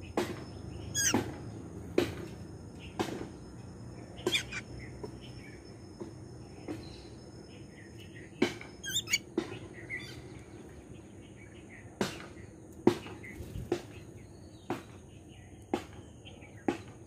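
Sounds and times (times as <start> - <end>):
bird chirps: 0.0 - 5.8, 6.4 - 17.0.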